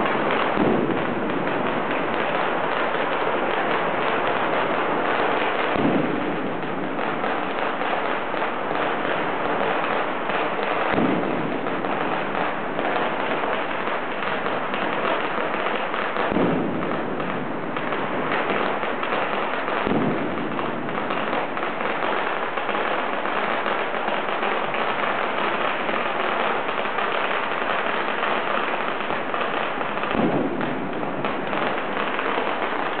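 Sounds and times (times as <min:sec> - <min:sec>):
deep firework booms: 0:00.0 - 0:33.0
fireworks crackling: 0:00.0 - 0:33.0.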